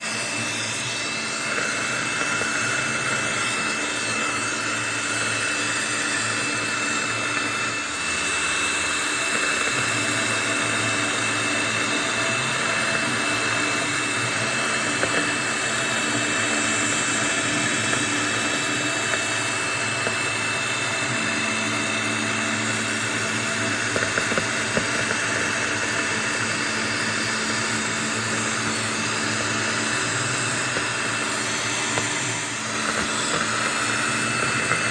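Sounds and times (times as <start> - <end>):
milling machine spindle whine: 0.0 - 34.9.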